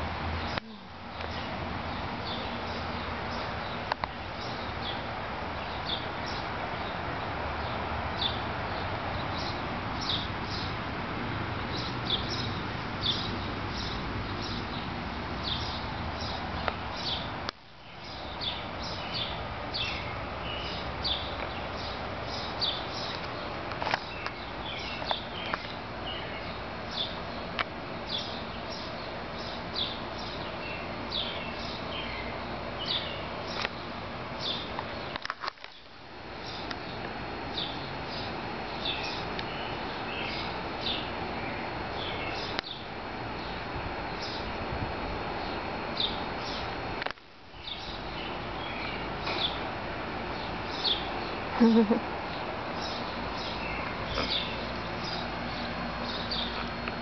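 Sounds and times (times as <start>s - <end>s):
outdoor background hiss: 0.0s - 57.0s
small birds chirping: 0.3s - 57.0s.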